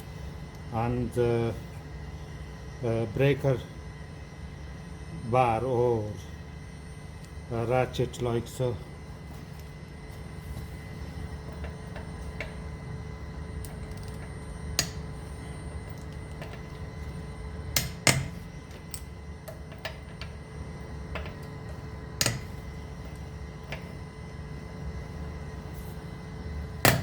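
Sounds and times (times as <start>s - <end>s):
low workshop hum: 0.0s - 27.0s.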